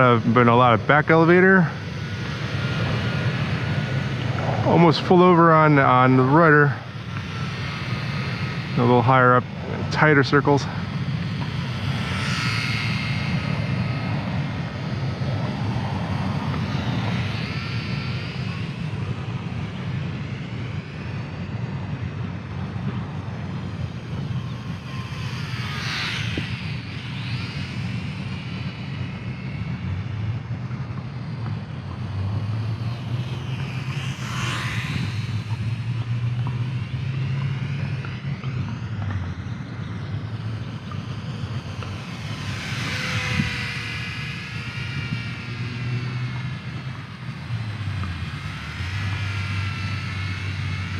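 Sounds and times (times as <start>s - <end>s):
model plane motor whine: 0.0s - 50.9s
steady low rumble: 0.0s - 50.9s.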